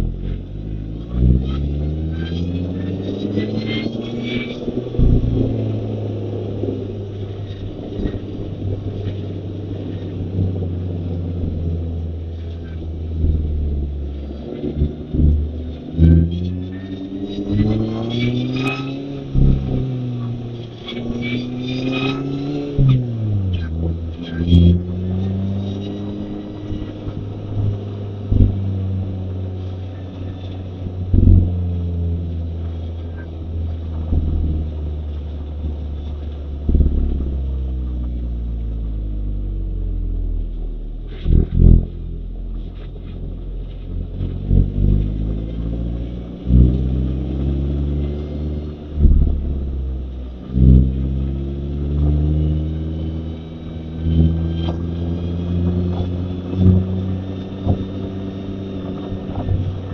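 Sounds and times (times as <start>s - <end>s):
car engine revving with gear changes: 0.0s - 59.9s.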